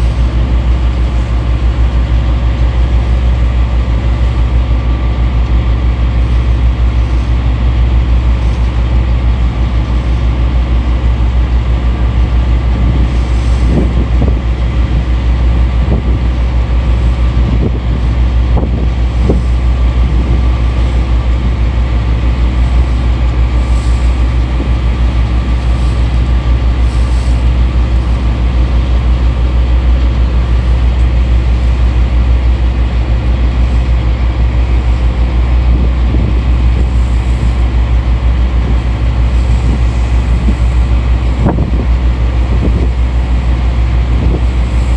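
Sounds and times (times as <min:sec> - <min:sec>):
boat engine running: 0:00.0 - 0:44.9
wind buffeting microphone: 0:00.0 - 0:44.9.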